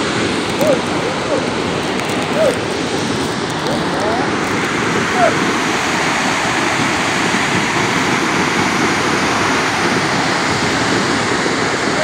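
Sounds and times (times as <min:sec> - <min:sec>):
waterfall rushing into pool: 0:00.0 - 0:12.0.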